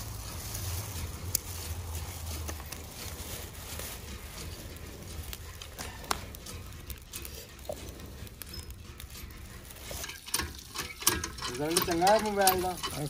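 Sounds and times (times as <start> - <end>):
low rumble: 0.0 - 10.8
dry twigs rustling and snapping: 0.0 - 13.0.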